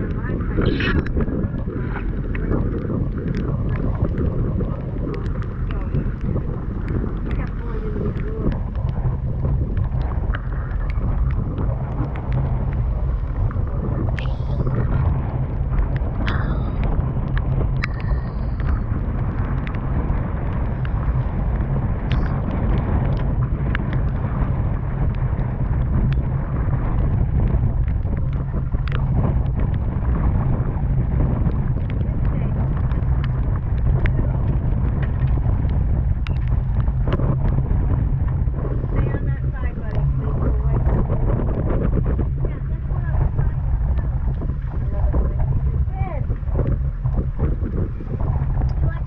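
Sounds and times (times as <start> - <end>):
boat motor rumbling: 0.0 - 49.0
wind buffeting microphone: 0.0 - 49.0.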